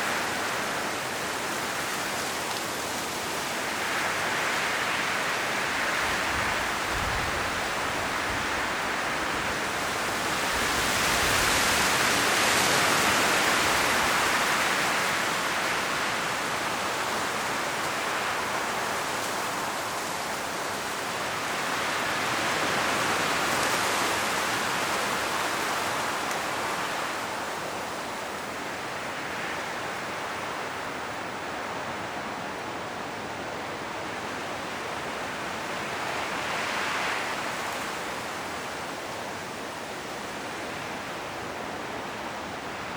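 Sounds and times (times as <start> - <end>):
wind rustling leaves: 0.0 - 42.9.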